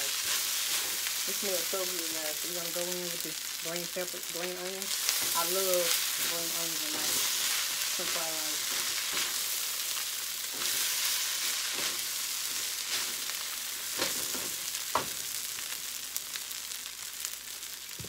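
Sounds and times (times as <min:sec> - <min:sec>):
rice sizzling in a wok: 0:00.0 - 0:18.0.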